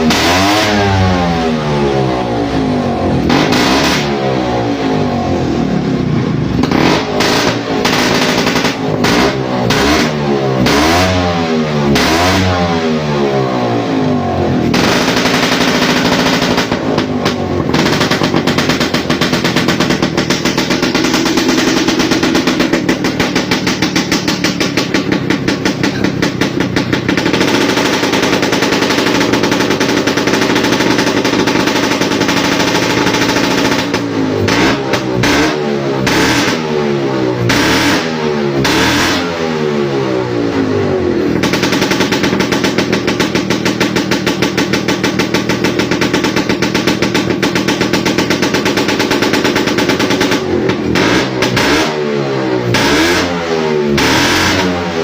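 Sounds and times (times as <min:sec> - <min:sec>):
scooter engine revving: 0:00.0 - 0:55.0.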